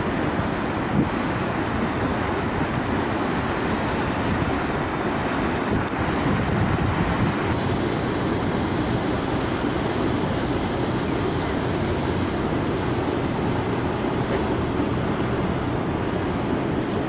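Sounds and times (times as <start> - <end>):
boat engine running: 0.0 - 17.0
water rushing: 0.0 - 17.0
wind noise: 0.0 - 17.0.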